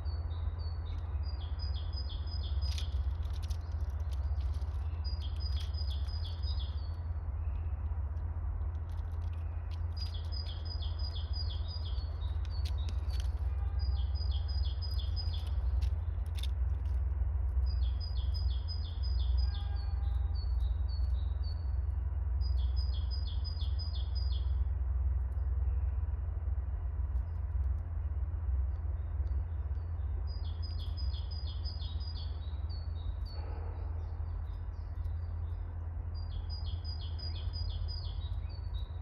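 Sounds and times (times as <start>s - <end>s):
small bird singing: 0.0s - 7.8s, 8.8s - 24.7s, 28.9s - 39.0s
steady low rumble: 0.0s - 39.0s.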